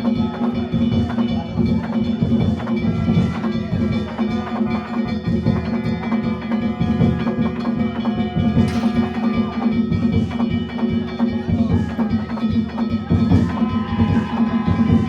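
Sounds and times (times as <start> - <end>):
clanging gongs: 0.0 - 15.0
taiko drum: 0.0 - 15.0.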